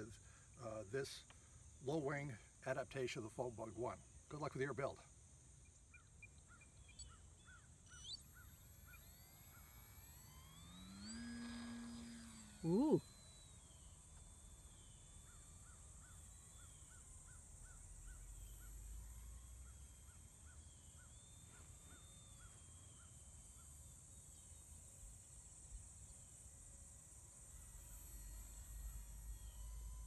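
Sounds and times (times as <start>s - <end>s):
distant model plane motor whine: 0.0s - 30.0s.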